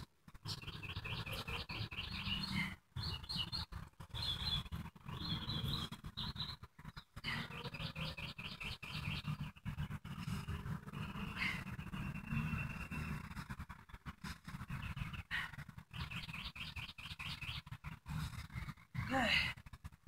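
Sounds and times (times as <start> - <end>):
songbirds chirping trills: 0.0 - 20.0.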